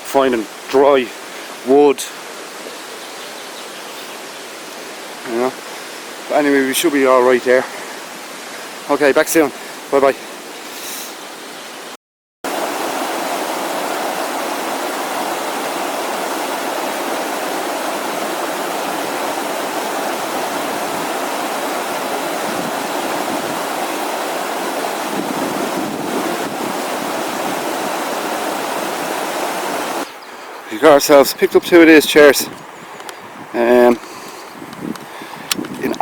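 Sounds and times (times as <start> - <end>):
river water rushing: 0.0 - 11.9, 12.5 - 32.0.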